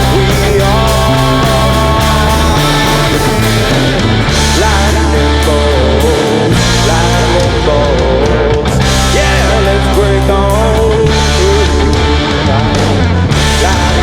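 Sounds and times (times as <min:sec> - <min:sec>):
bass and drums: 0:00.0 - 0:14.0
distorted electric guitars: 0:00.0 - 0:14.0.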